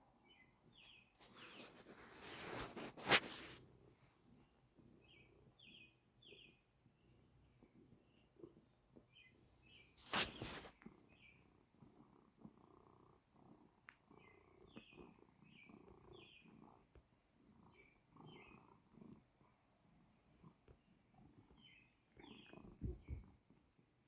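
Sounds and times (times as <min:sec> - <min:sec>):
small birds chirping: 0:00.1 - 0:11.7, 0:13.6 - 0:23.6.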